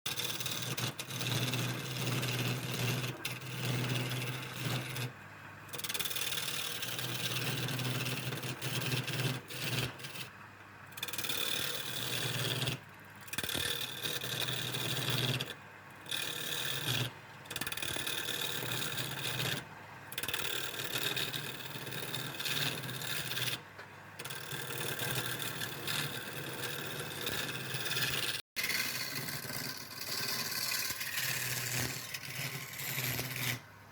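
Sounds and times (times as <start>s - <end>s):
rough scraping on wood: 0.1s - 5.1s, 5.7s - 10.3s, 11.0s - 23.6s, 24.2s - 33.7s.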